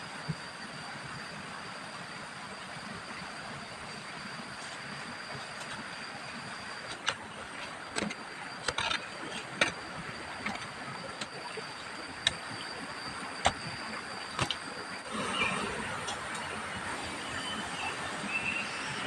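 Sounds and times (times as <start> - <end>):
thin high steady tone: 0.0 - 19.0.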